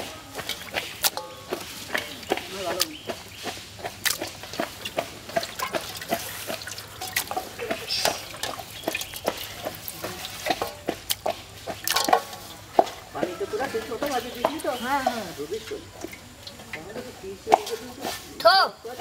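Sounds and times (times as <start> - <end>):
chicken splashing in a steel bowl: 0.0 - 18.4.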